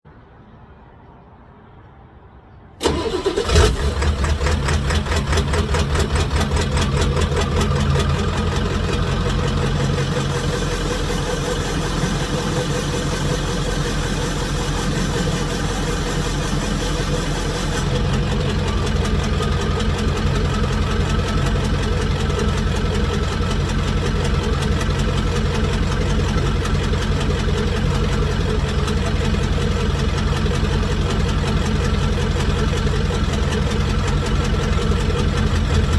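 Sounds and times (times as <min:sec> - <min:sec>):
diesel engine idling: 0:02.8 - 0:35.9.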